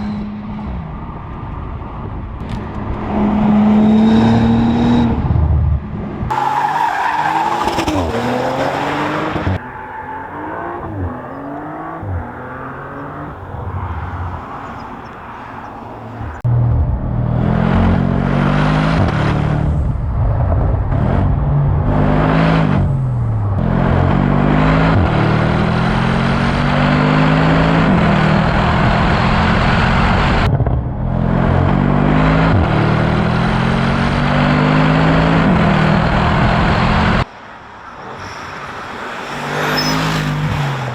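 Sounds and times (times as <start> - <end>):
sports car engine accelerating: 2.4 - 37.3.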